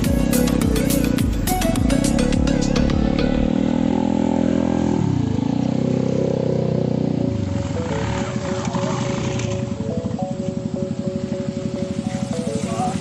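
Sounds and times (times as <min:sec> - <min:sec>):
motorcycle engines in low gear: 0:00.0 - 0:13.0.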